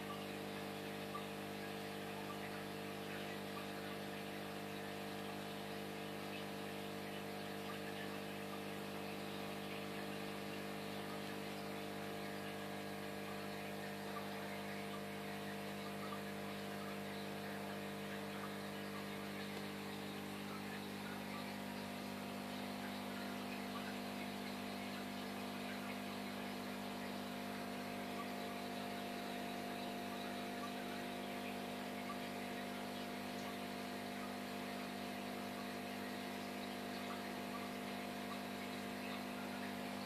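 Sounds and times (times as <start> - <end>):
aquarium equipment hum: 0.0 - 40.0
bubbles fizzing: 0.0 - 40.0.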